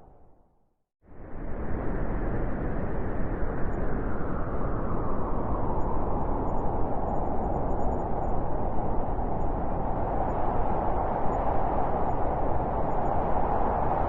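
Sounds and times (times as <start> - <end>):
strong wind blowing: 1.1 - 14.0.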